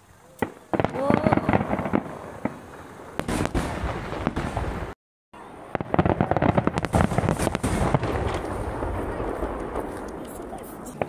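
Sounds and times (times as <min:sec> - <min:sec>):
fireworks bangs and crackling: 0:00.4 - 0:11.0.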